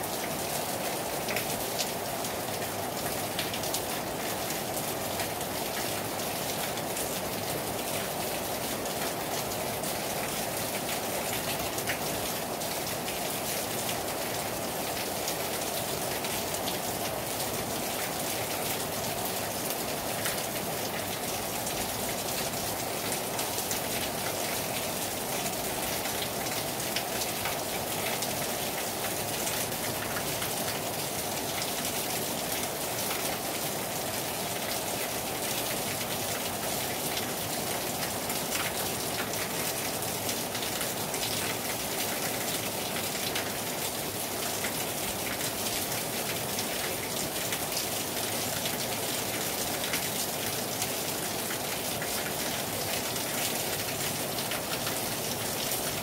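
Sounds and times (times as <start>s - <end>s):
heavy rain on a terrace: 0.0s - 56.0s.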